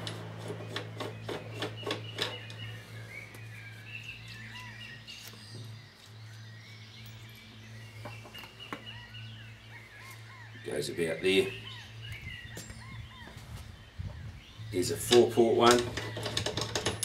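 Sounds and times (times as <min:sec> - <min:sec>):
steady low hum: 0:00.0 - 0:16.2
birds chirping: 0:00.0 - 0:17.0.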